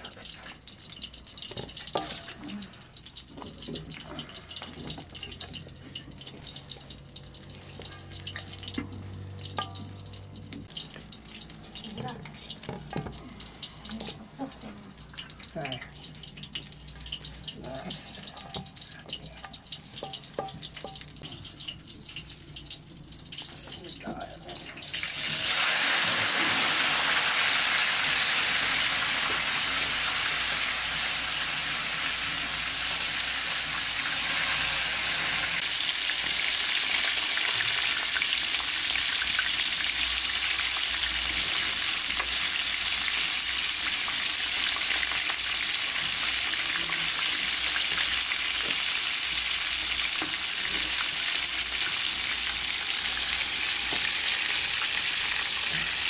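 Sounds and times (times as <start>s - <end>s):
chicken deep-frying in hot oil: 0.0s - 56.0s.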